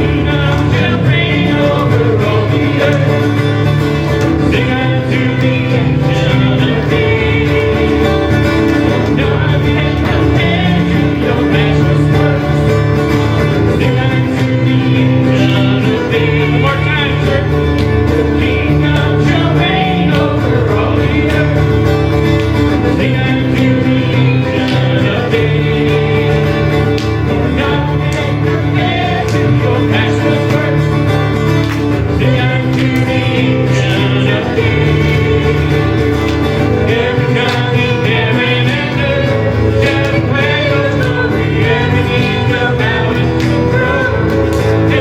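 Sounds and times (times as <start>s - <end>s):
guitar: 0.0s - 45.0s
person singing: 0.0s - 45.0s.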